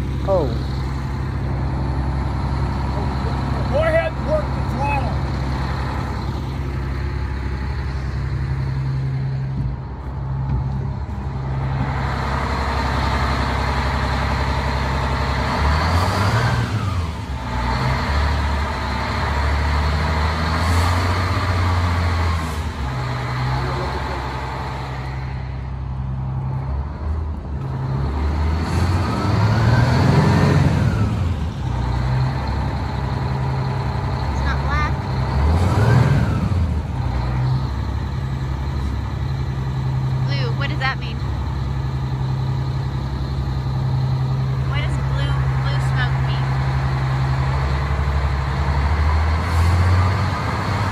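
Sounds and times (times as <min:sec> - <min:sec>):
diesel engine revving: 0:00.0 - 0:50.9.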